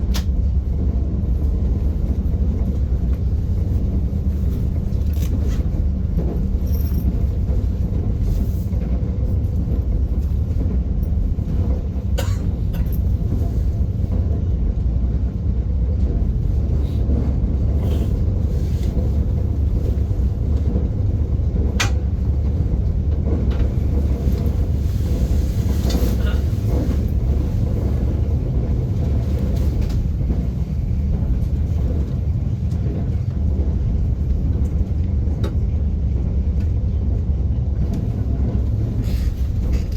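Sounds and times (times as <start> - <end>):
sharp clicks of train: 0.0 - 39.9
train rumbling on track: 0.0 - 39.9.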